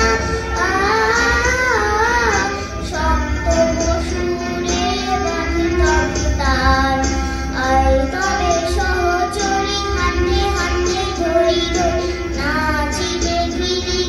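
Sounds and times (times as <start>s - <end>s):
held accompaniment notes: 0.0s - 14.0s.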